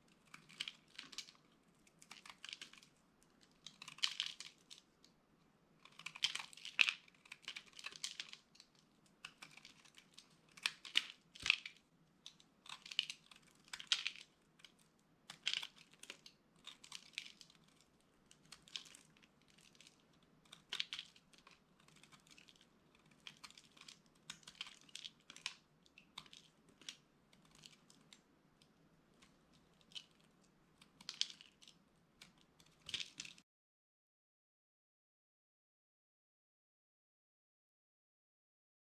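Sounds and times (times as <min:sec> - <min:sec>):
dry soap crunching: 0:00.0 - 0:33.4.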